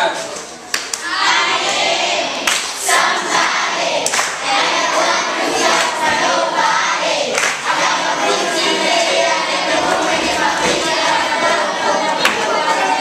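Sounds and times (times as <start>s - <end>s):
children singing in chorus: 1.0s - 13.0s.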